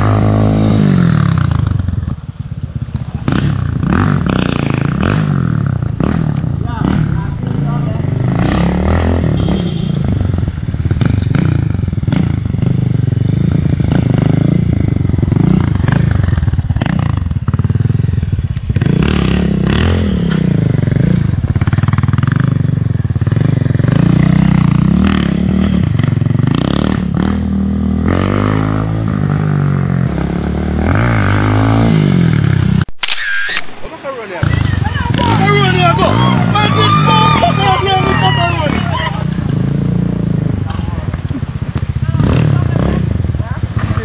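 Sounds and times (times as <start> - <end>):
motorcycle engine revving: 0.0 - 33.0, 33.8 - 44.0.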